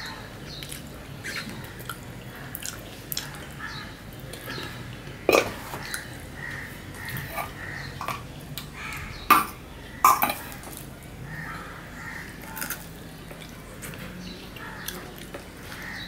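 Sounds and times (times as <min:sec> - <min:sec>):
chewing food: 0:00.0 - 0:09.1, 0:10.1 - 0:16.0
eating from steel plate: 0:00.5 - 0:16.0.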